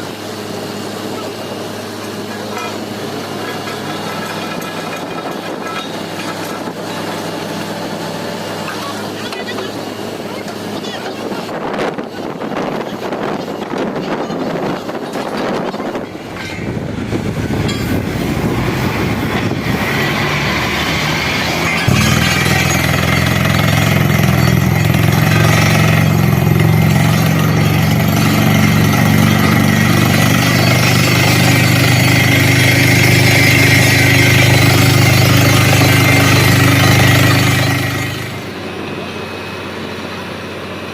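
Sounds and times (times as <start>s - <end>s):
deep engine hum with whine: 0.0s - 40.9s
drilling rig running: 0.0s - 40.9s.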